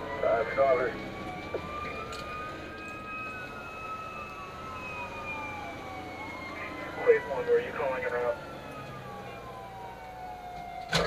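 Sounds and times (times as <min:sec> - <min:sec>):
engine and road rumble: 0:00.0 - 0:11.0
sirens wailing: 0:00.0 - 0:11.0.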